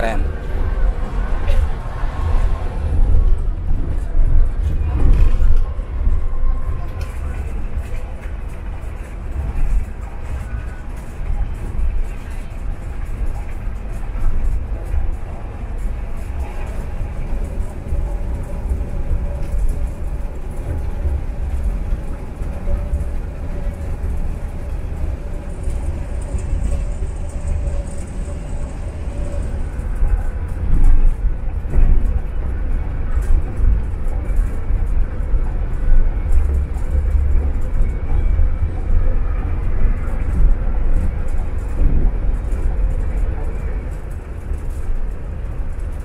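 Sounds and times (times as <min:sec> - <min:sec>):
coach engine drone: 0:00.0 - 0:46.0
road and tyre rumble: 0:00.0 - 0:46.0.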